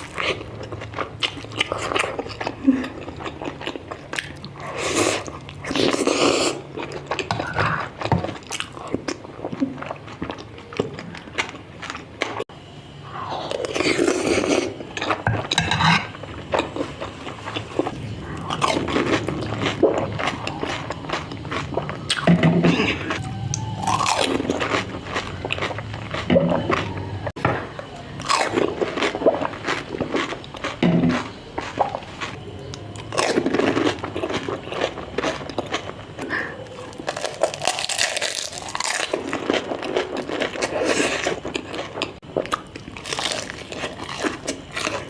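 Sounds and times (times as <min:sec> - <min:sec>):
food being crunched and chewed: 0:00.0 - 0:12.4, 0:16.3 - 0:27.0, 0:27.9 - 0:45.0.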